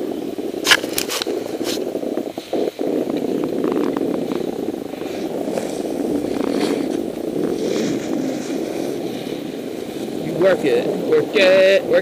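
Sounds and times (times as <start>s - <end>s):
wind on microphone: 0.0s - 12.0s
snowboard scraping on snow: 0.1s - 11.6s.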